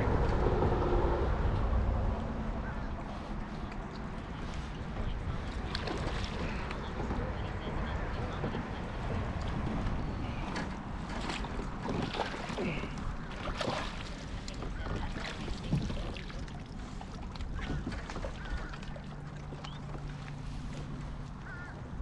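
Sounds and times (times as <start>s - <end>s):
wind rumble on microphone: 0.0s - 18.2s
water splashing: 3.0s - 21.7s
knocks and rustles around kayak: 3.0s - 22.0s.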